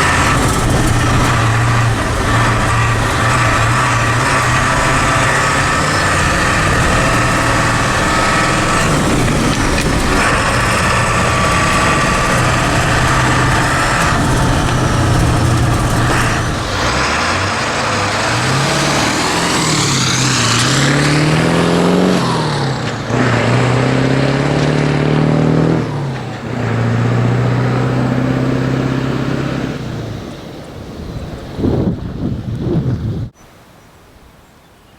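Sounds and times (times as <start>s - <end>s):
diesel truck engine accelerating: 0.0s - 33.4s.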